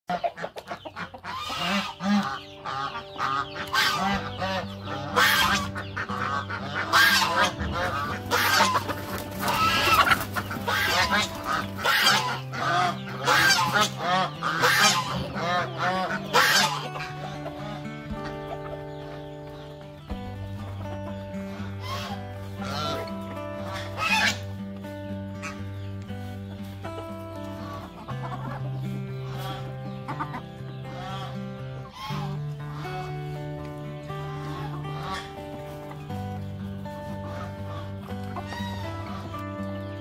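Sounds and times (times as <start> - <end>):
chickens squawking and cackling: 0.1 - 40.0
music with held notes: 0.1 - 40.0.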